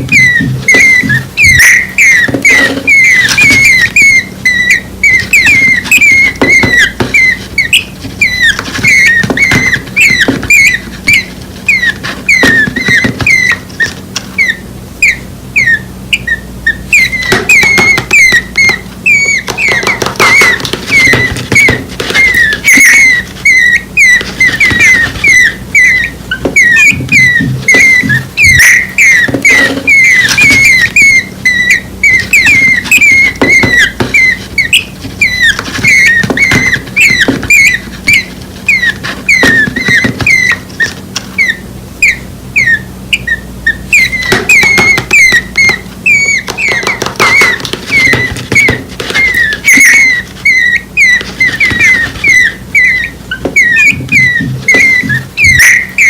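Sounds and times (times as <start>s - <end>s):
chicks cheeping: 0.0s - 56.0s.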